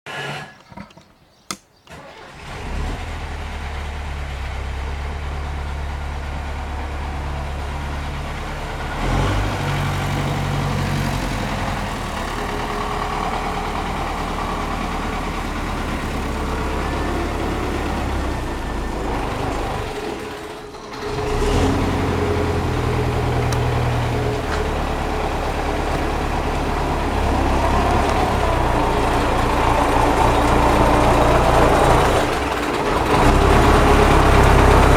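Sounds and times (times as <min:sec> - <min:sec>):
tractor diesel engine knocking: 0:03.5 - 0:34.9.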